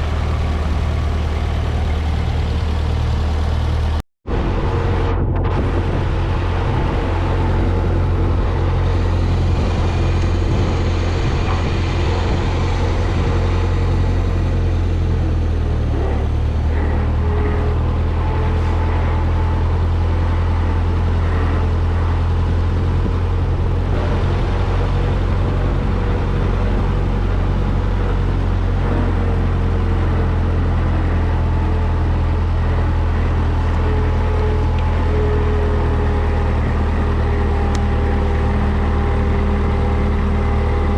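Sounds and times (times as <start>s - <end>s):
tractor engine idling: 0.0s - 40.9s.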